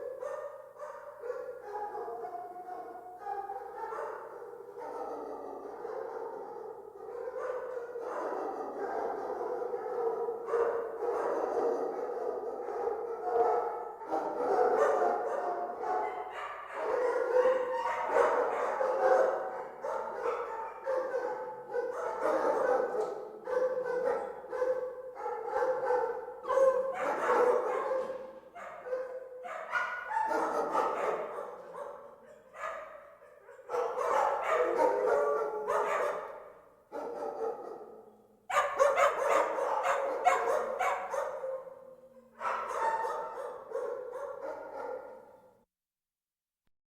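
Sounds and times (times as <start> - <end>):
many dogs barking and yelping: 0.0 - 45.4.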